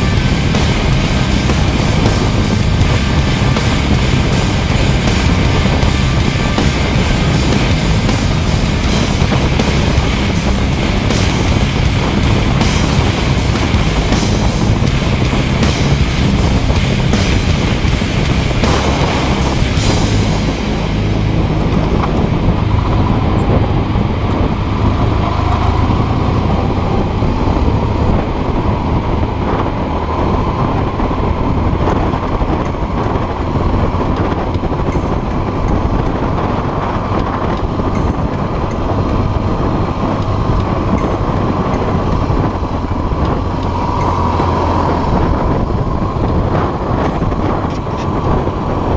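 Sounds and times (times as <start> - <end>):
motorcycle engine running: 0.0 - 48.9
wind noise on microphone: 0.0 - 48.9.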